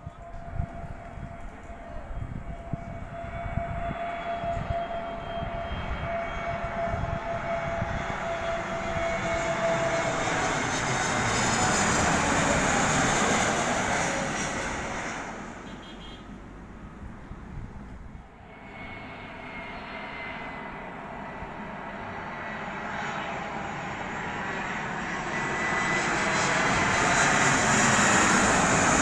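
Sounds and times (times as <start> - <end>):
jet airliner engine rush: 0.0 - 29.0
jet engine whine: 0.0 - 29.0.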